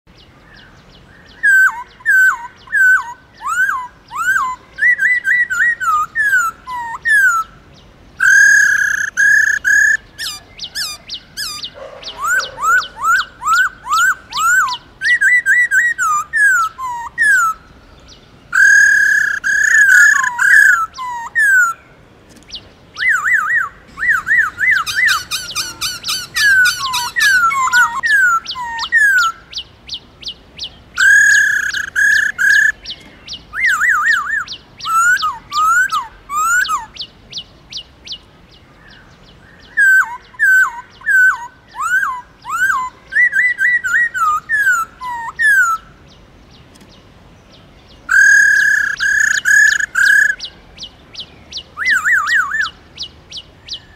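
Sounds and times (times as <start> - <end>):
bird singing whistled notes: 0.1 - 21.9, 22.5 - 46.2, 46.9 - 53.9.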